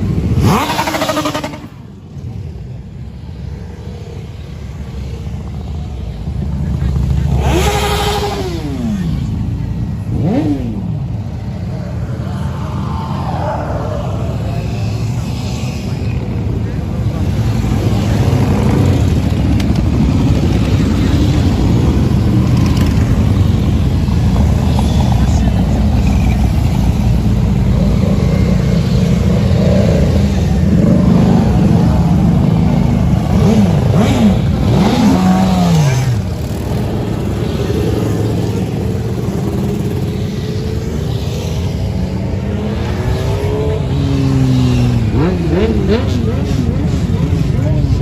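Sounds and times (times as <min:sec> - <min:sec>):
motorcycle engine revving: 0:00.0 - 0:01.9, 0:06.4 - 0:48.0
motorcycle engines running low: 0:00.0 - 0:48.0.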